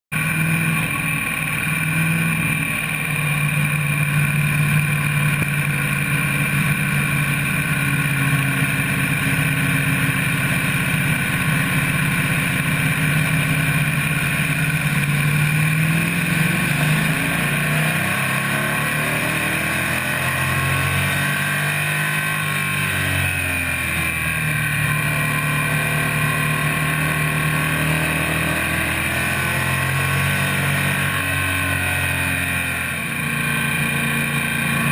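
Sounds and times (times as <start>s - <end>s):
race car engine running hard: 0.1s - 34.9s.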